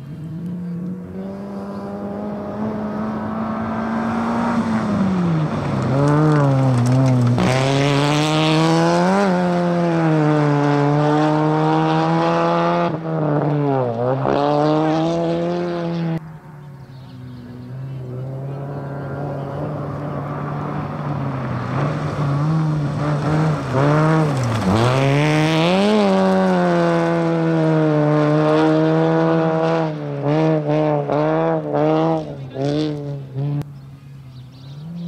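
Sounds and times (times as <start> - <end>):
rally car engine at full throttle: 0.0 - 35.0.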